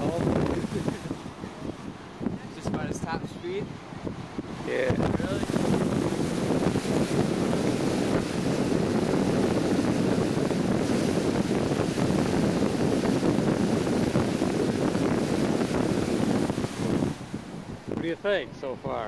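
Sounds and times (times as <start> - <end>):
ship hull wave churning: 0.0 - 18.3
wind on microphone: 0.0 - 19.0.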